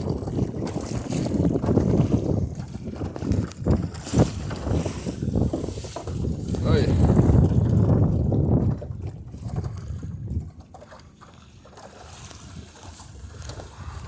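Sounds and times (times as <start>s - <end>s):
water washing against boat: 0.0s - 14.0s
wind rumbling on microphone: 0.0s - 14.0s.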